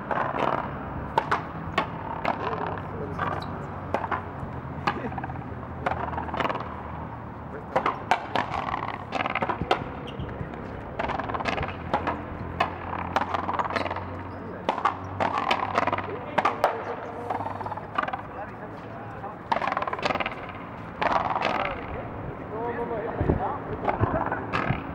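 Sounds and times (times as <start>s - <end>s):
rubber ball hit by wooden rackets: 0.0s - 22.0s, 23.8s - 24.9s.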